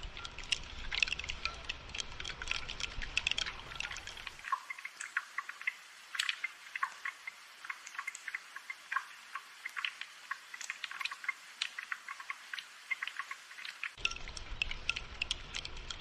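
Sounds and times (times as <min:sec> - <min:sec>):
rain dripping: 0:00.0 - 0:16.0.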